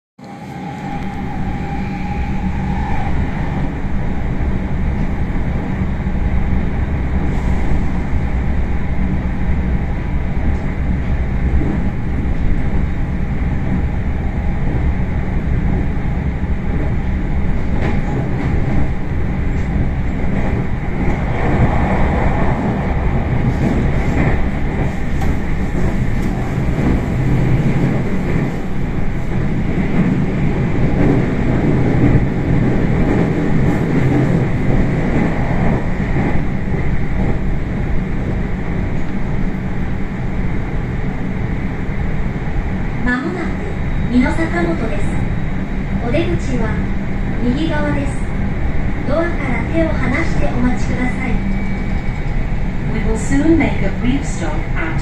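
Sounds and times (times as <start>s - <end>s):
train wheels rumbling on rails: 0.2s - 55.0s.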